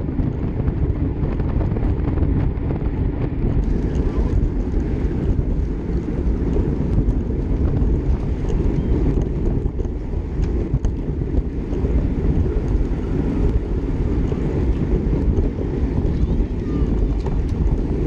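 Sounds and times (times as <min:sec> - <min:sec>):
tyre and road rumble: 0:00.0 - 0:18.0
wind buffeting microphone: 0:00.0 - 0:18.0.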